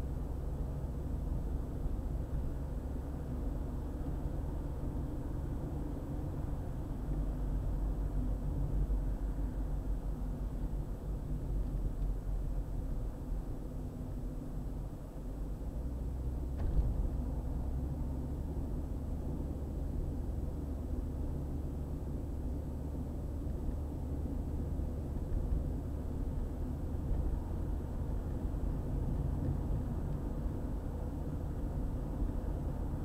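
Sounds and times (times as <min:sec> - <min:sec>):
car driving at highway speed: 0:00.0 - 0:33.0.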